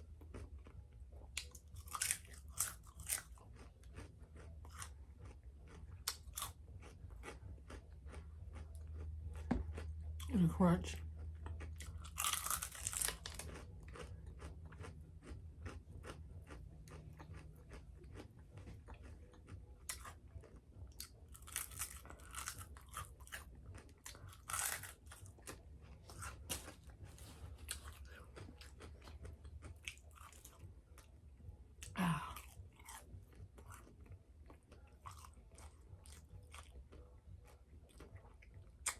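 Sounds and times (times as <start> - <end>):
crunchy bites of fried chicken: 0.0 - 10.3, 11.2 - 31.1, 31.8 - 37.1
chewing: 0.0 - 38.9.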